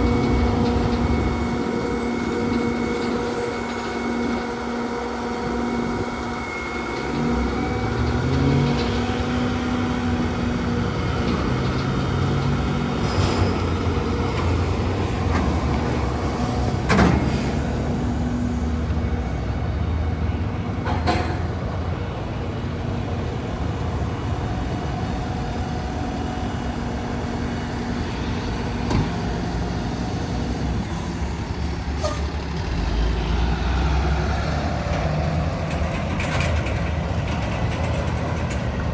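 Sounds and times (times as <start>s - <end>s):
steady whining tones: 0.0s - 32.0s
diesel truck engine running: 0.0s - 38.9s.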